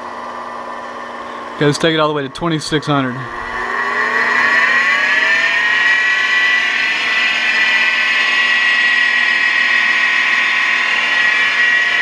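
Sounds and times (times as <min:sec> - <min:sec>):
lathe motor whine: 0:00.0 - 0:12.0.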